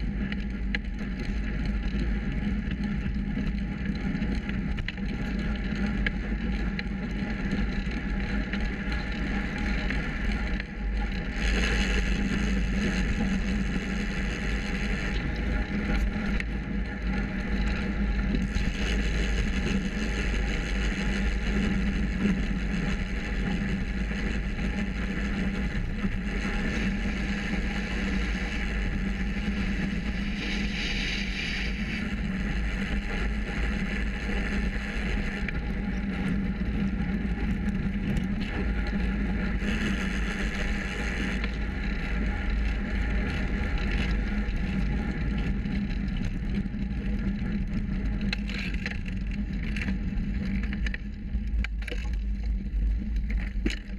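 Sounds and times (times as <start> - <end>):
bicycle road rumble: 0.0 - 53.9
rushing wind: 1.6 - 51.3.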